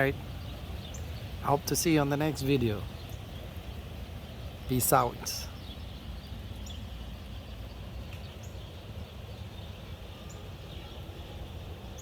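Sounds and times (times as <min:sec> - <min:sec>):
hard rain: 0:00.0 - 0:12.0.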